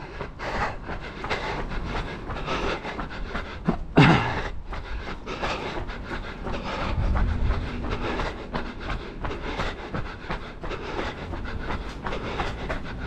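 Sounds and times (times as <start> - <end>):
low rumble: 0.0 - 13.0
runner breathing: 0.0 - 13.0
runner's footfalls: 0.0 - 13.0.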